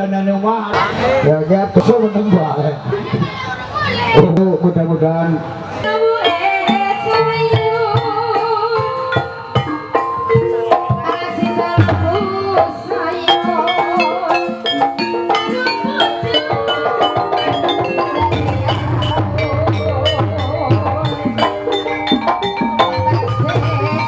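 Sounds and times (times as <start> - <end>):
struck tuned percussion: 0.7 - 3.3, 5.9 - 24.0
hand drums: 0.7 - 3.4, 5.9 - 24.0.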